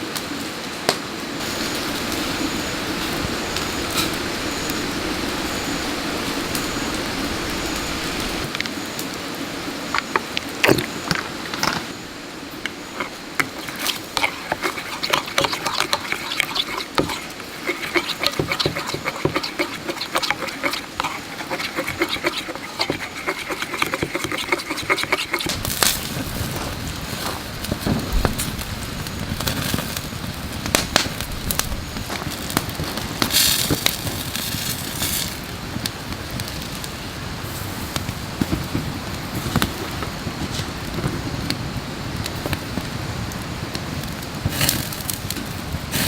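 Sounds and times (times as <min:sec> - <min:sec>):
wood fire crackling and popping: 0:00.1 - 0:46.0.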